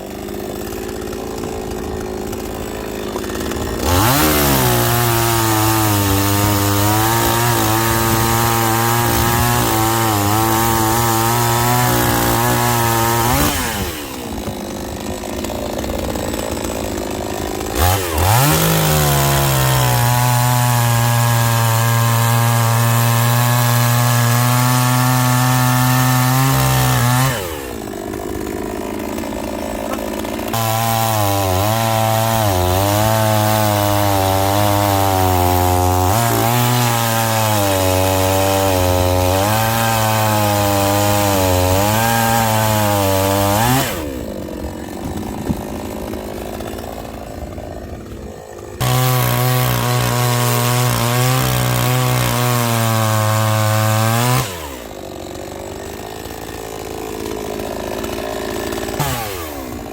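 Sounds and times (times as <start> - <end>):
chainsaw cutting firewood: 0.0 - 59.9.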